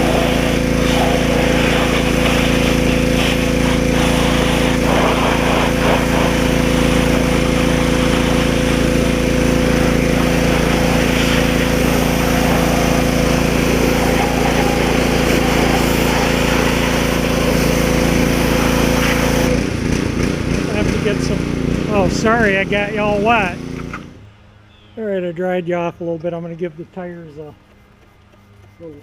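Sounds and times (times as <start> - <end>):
water spray hissing: 0.0 - 24.1
pressure washer motor hum: 0.0 - 24.3.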